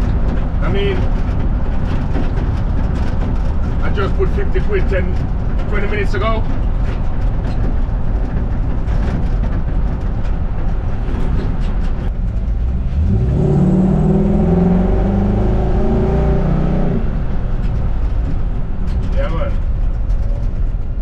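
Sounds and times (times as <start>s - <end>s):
road noise: 0.0s - 21.0s
truck engine: 0.0s - 21.0s.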